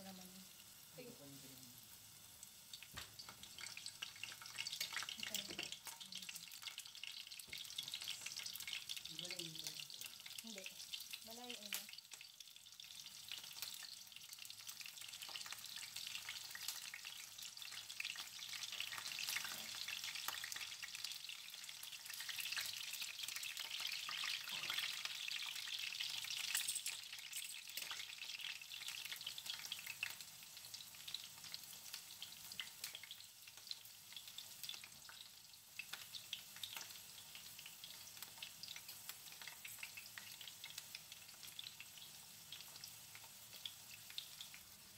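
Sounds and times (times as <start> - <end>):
pumpkin slices sizzling in oil: 0.0 - 44.9.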